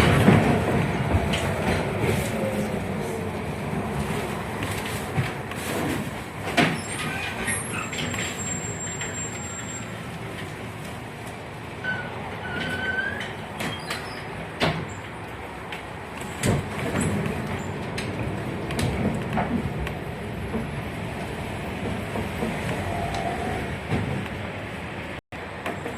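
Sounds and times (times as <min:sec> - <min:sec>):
tram rolling rumble: 0:00.0 - 0:25.9.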